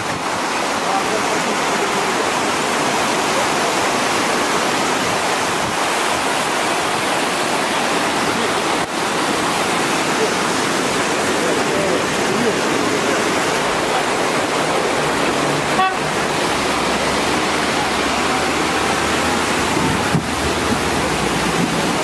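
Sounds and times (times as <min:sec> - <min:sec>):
fast-flowing stream water: 0:00.0 - 0:22.0.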